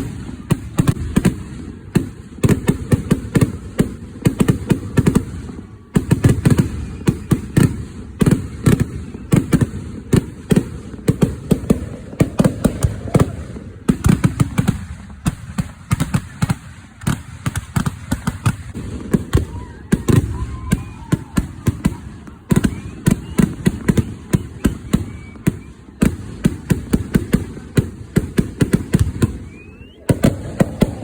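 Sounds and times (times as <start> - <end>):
fireworks barrage bangs: 0.0 - 31.0.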